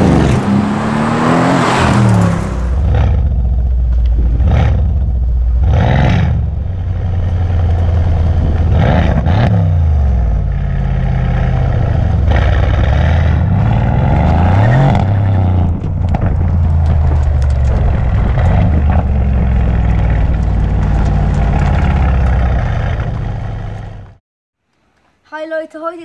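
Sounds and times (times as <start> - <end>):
car engine revving: 0.0 - 24.2
exhaust crackles: 0.0 - 24.2.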